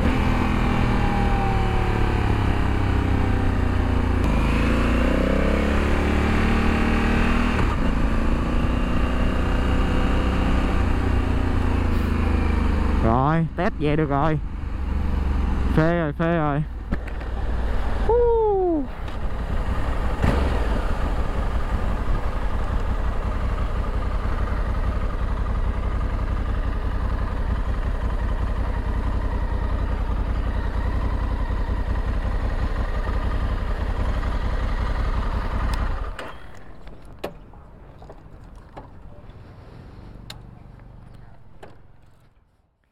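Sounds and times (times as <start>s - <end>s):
motorcycle engine running: 0.0s - 42.3s.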